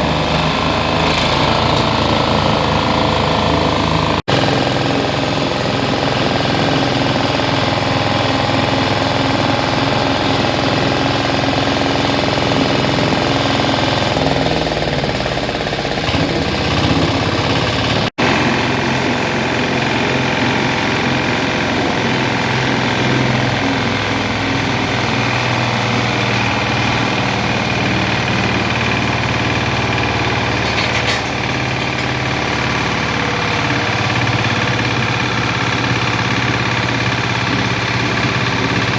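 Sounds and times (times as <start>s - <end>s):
grinding machine running: 0.0s - 38.9s.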